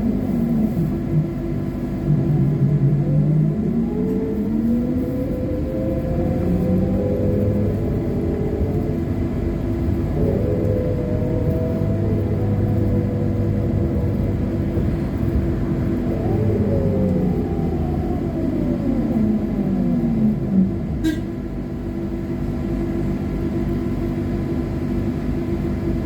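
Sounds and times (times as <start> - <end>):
road rumble: 0.0 - 26.0.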